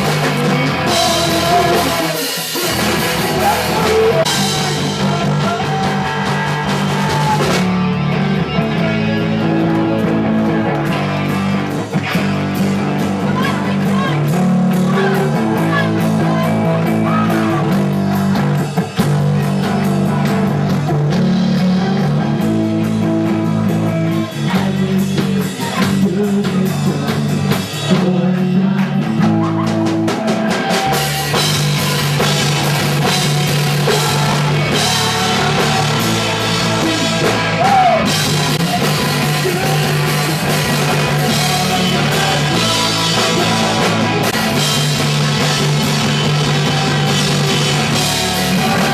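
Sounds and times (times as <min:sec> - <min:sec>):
person singing: 0:00.0 - 0:48.9
punk rock band playing: 0:00.0 - 0:48.9.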